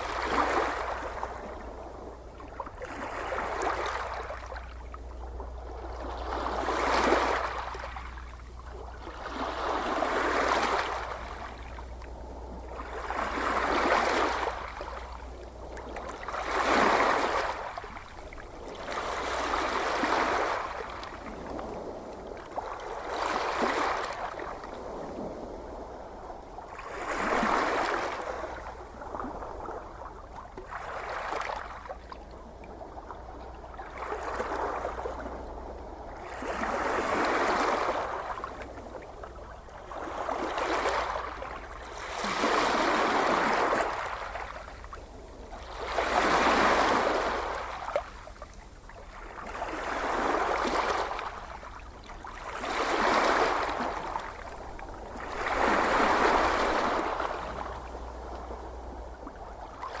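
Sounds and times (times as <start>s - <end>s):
ocean waves washing in: 0.0s - 60.0s.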